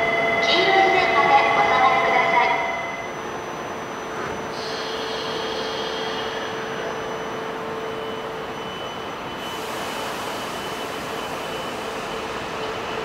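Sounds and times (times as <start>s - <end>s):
faint high whine: 0.0s - 12.2s
train running noise: 0.0s - 13.0s.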